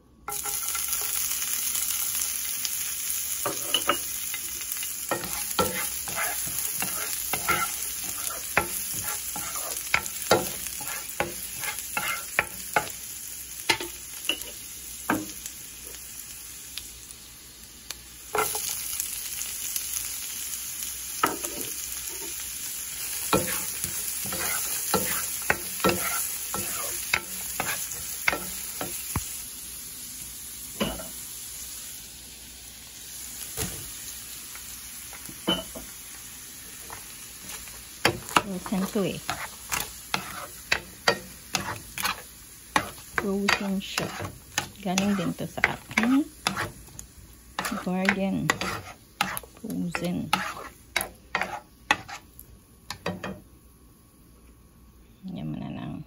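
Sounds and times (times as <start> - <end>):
garlic sizzling in hot oil: 0.0 - 54.2.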